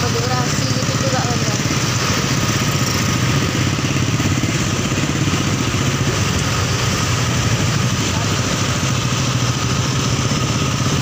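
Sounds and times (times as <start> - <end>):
motorcycle engine running: 0.0 - 11.0
wind and road rush: 0.0 - 11.0.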